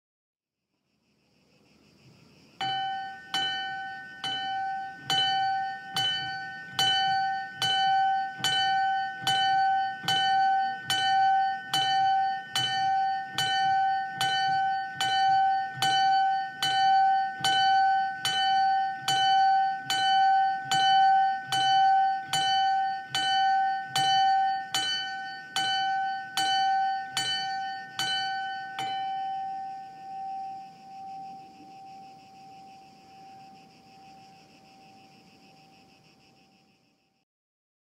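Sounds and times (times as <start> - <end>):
small bell tolling: 2.6 - 34.1.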